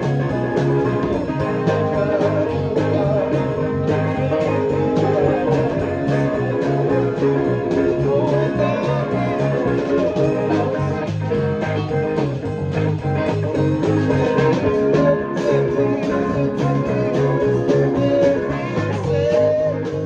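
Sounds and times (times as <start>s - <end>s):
electric bass line: 0.0s - 20.0s
electric guitar: 0.0s - 20.0s.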